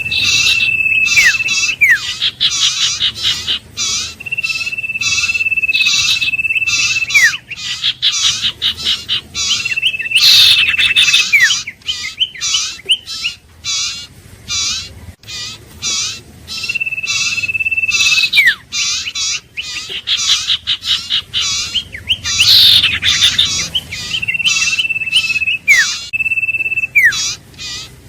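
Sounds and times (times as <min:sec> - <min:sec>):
long bird whistle: 0:00.0 - 0:13.4, 0:16.0 - 0:27.8
bird chattering notes: 0:00.0 - 0:28.0.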